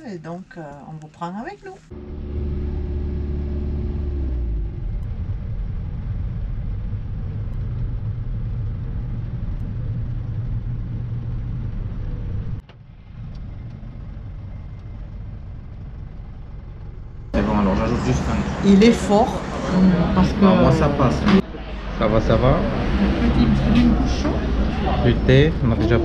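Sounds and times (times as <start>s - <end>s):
vehicle engine and road rumble: 0.0s - 26.0s.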